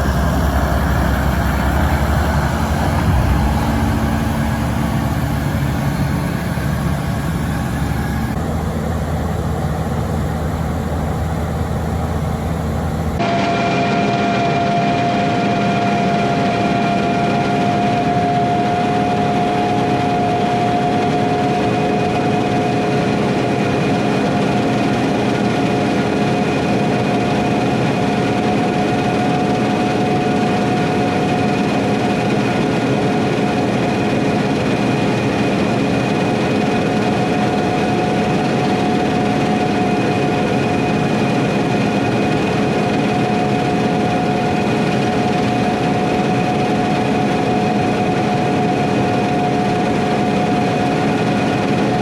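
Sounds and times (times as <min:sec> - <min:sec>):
farm machinery engine running: 0:00.0 - 0:24.4, 0:30.5 - 0:52.0
steady machine whine: 0:00.0 - 0:52.0.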